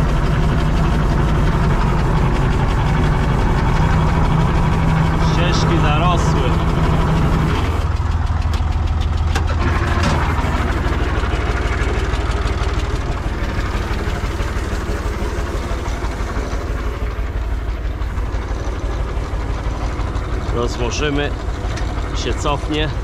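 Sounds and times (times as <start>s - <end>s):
diesel tractor engine idling: 0.0s - 23.0s.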